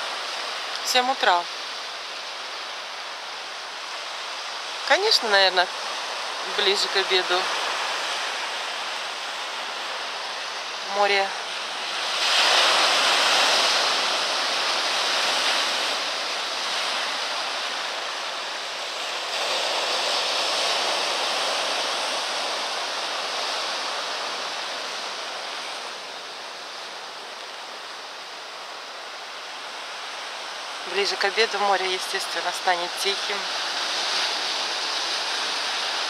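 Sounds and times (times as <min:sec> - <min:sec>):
sea surf breaking on boulders: 0:00.0 - 0:36.0.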